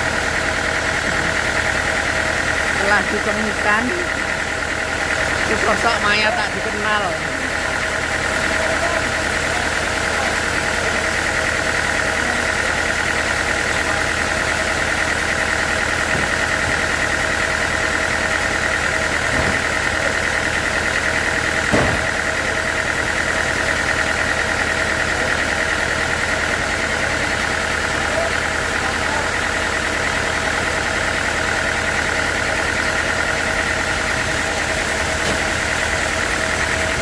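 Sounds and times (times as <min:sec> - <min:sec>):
sawmill machinery drone: 0:00.0 - 0:37.0.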